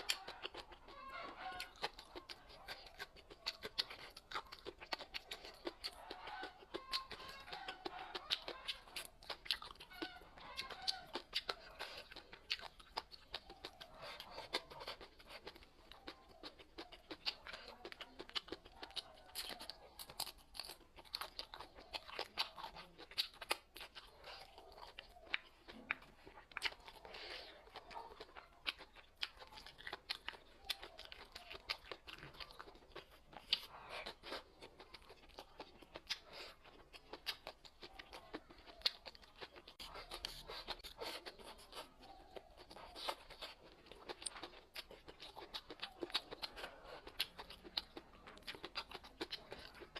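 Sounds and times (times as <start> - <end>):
chewing and crunching food: 0.0 - 49.9.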